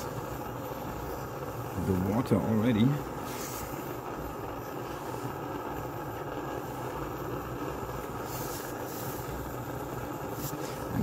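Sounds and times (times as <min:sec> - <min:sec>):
camping stove burner hissing: 0:00.0 - 0:11.0.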